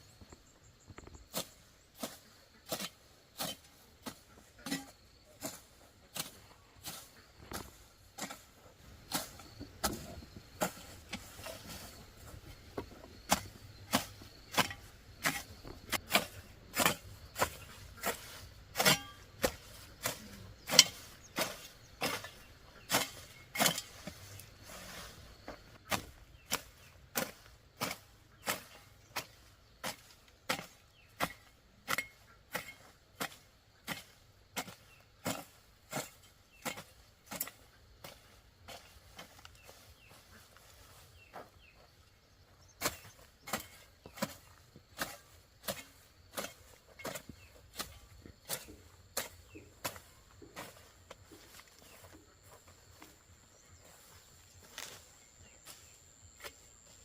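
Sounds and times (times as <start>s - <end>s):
hoe chopping into soil: 1.3s - 41.9s, 42.7s - 52.1s.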